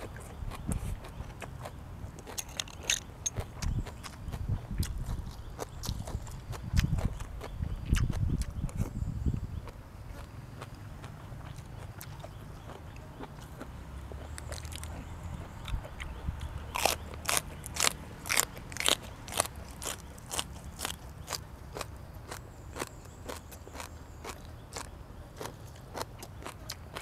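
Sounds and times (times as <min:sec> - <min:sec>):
chewing crunchy food: 0:00.0 - 0:27.0.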